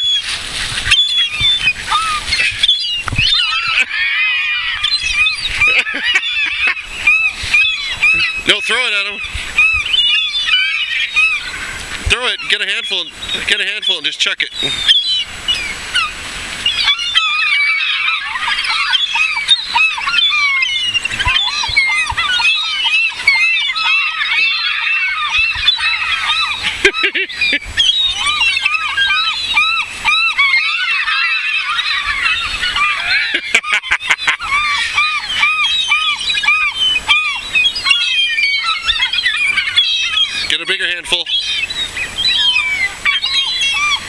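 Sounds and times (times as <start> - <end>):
seagulls squawking: 0.0 - 44.0.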